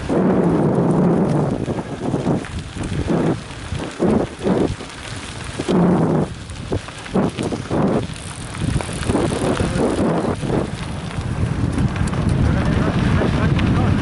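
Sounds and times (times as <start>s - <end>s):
bike rattling over bumps: 0.0s - 14.0s
tyres crunching on gravel: 0.0s - 14.0s
wind buffeting microphone: 0.0s - 14.0s.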